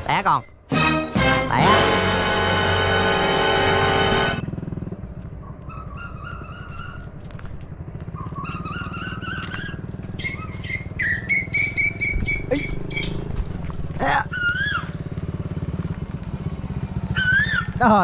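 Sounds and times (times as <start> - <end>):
birds chirping: 0.0 - 0.9, 4.2 - 18.0
motorcycle engine idling: 1.9 - 18.0.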